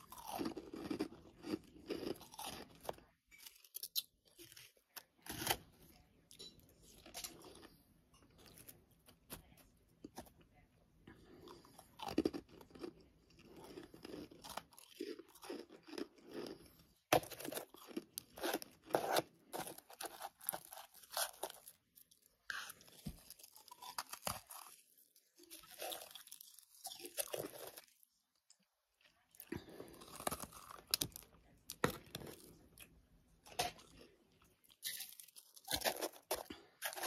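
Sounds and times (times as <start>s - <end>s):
chewing frost: 0.0s - 5.7s, 6.9s - 32.9s.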